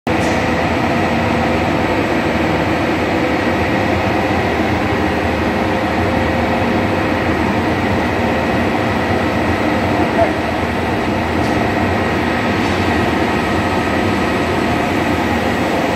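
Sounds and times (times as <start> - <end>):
printing press drone: 0.1 - 15.9.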